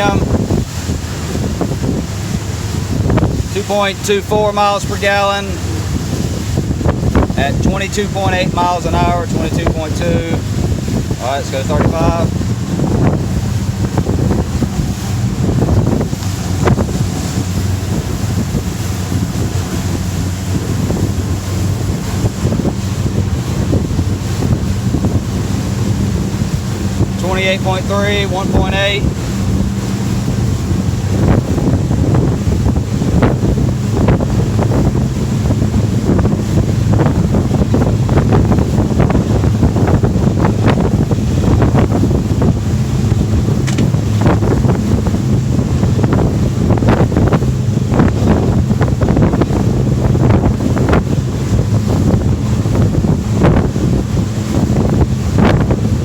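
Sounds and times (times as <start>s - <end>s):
outboard engines humming: 0.0s - 56.0s
water rushing past hull: 0.0s - 56.0s
wind buffeting microphone: 0.0s - 56.0s.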